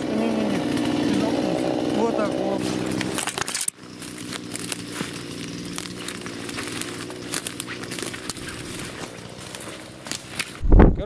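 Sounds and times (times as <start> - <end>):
footsteps crunching through dry leaves: 0.4 - 10.6.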